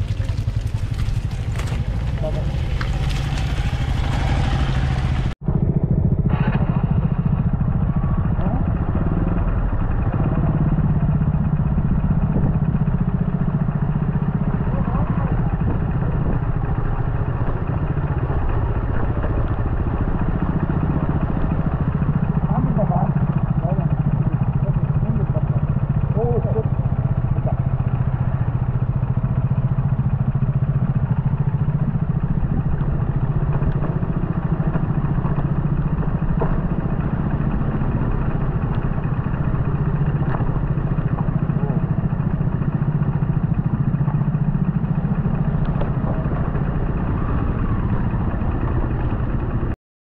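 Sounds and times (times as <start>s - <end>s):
motorcycle engine running steadily: 0.0s - 49.8s.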